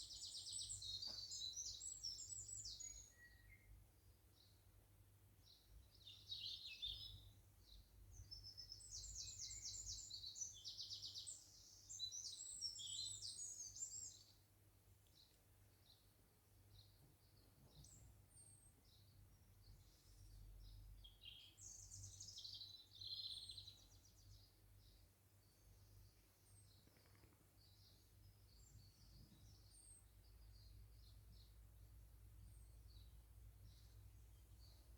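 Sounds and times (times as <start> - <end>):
birds singing faintly: 0.0 - 34.9.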